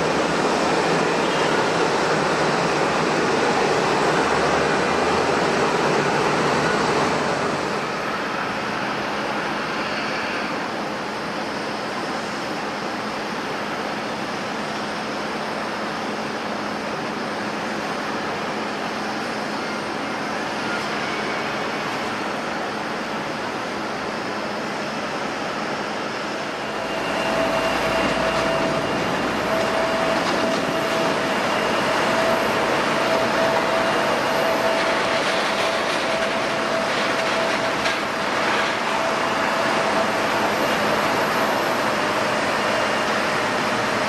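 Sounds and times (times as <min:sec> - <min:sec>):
engine whine: 0:00.0 - 0:44.0
jet engines rushing: 0:00.0 - 0:44.0.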